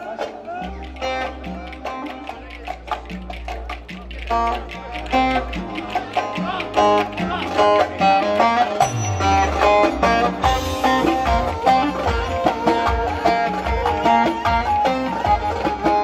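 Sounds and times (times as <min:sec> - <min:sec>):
fast folk dance melody: 0:00.0 - 0:16.0.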